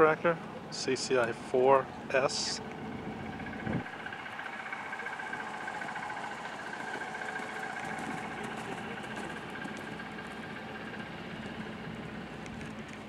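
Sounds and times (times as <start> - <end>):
steady mechanical hum with whine: 0.0 - 13.0.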